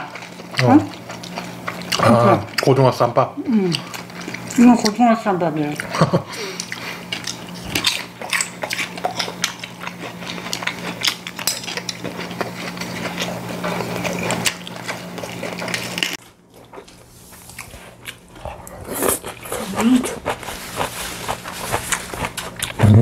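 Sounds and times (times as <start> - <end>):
chewing: 0.0 - 2.9, 3.6 - 5.0, 5.7 - 23.0.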